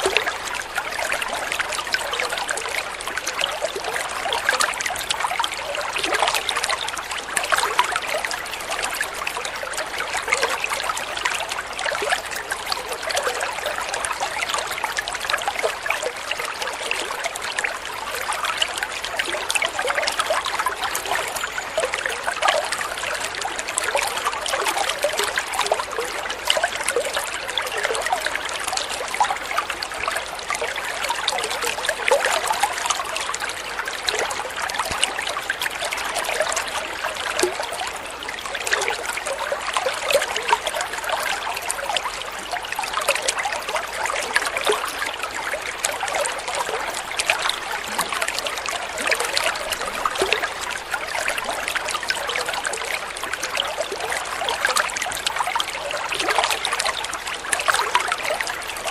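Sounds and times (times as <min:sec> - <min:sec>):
water trickling and babbling: 0:00.0 - 0:58.9.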